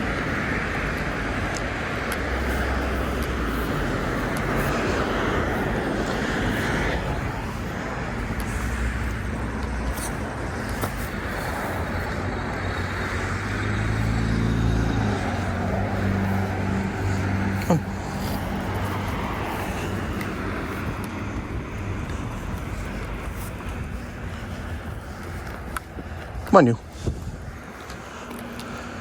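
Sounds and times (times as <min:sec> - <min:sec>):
tyre hiss on wet street: 0:00.0 - 0:29.0
vehicle engine hum: 0:00.0 - 0:29.0.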